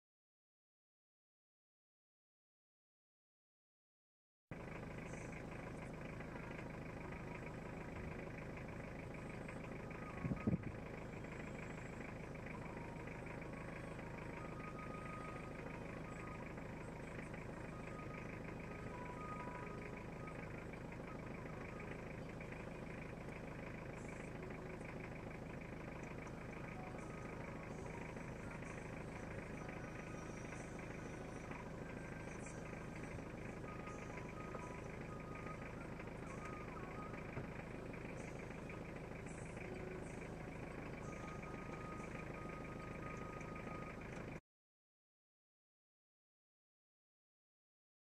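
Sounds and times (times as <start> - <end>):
vehicle engine idling: 4.5 - 44.4.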